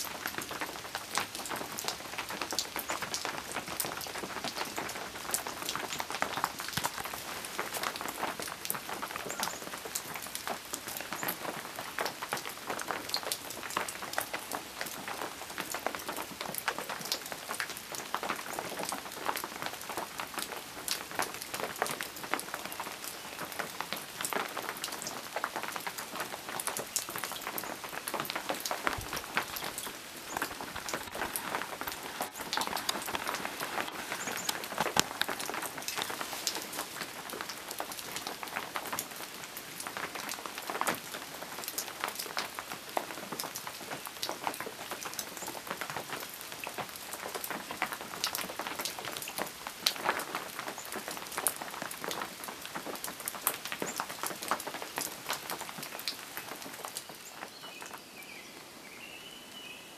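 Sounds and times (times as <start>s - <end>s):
raindrops striking close by: 0.0s - 58.8s
steady rain falling: 0.0s - 59.9s.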